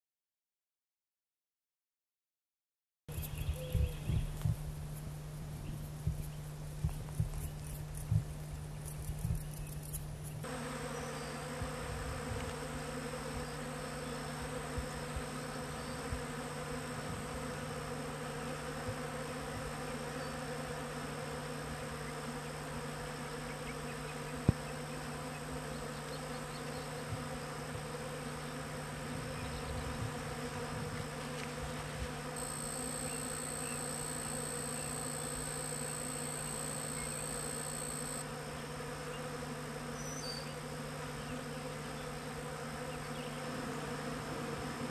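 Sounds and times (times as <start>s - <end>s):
bees buzzing: 3.1s - 44.9s.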